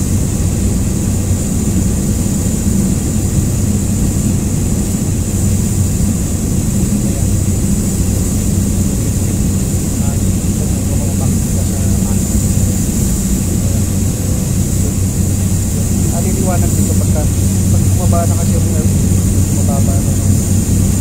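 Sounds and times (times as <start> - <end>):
aircraft engine drone in cabin: 0.0 - 21.0
airflow hiss: 0.0 - 21.0.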